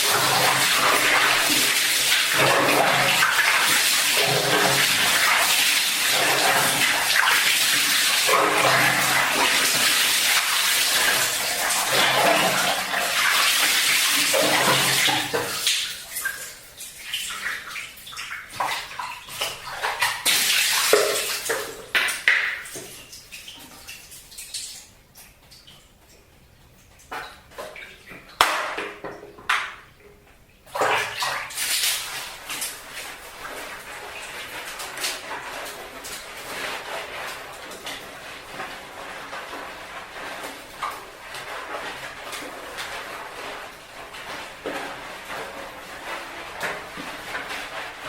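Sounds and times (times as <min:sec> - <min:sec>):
water splashing: 0:00.0 - 0:29.9, 0:30.6 - 0:48.0
water dripping: 0:00.0 - 0:48.0.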